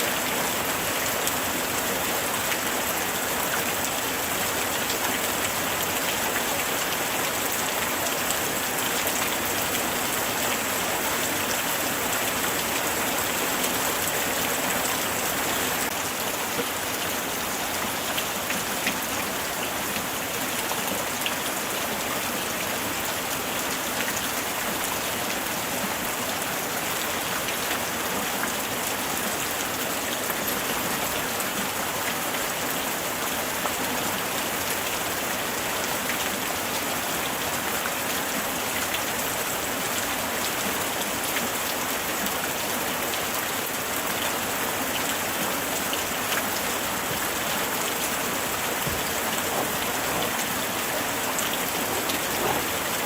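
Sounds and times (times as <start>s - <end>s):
light rain falling: 0.0s - 53.0s.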